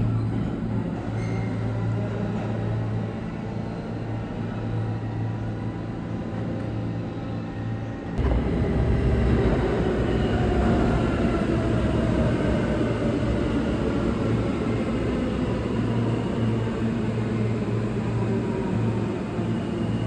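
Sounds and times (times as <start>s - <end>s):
subway train rumble and rail noise: 0.0s - 20.0s.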